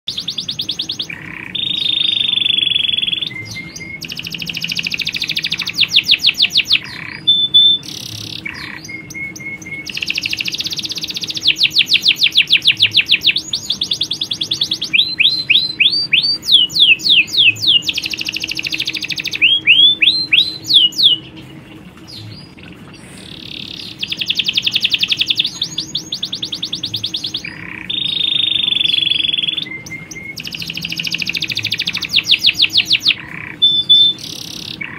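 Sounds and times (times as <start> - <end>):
canaries singing: 0.1 - 34.9
faint low hum: 0.1 - 34.9.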